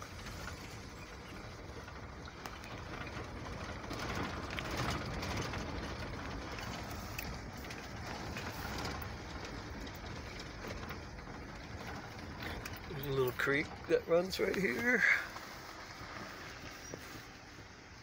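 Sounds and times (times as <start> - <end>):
small clicks and rattles: 0.0 - 17.7
engine and tyre rumble: 0.0 - 18.0.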